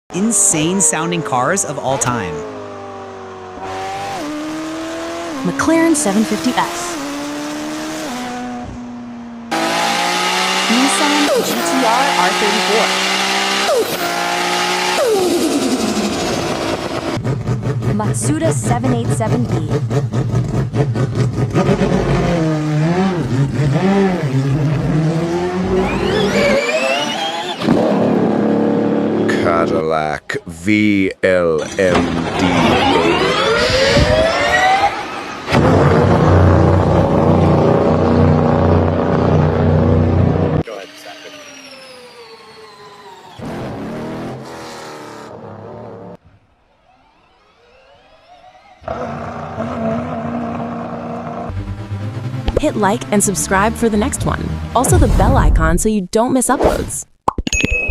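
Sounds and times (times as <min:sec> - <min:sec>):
race car engine revving: 0:00.1 - 0:55.7.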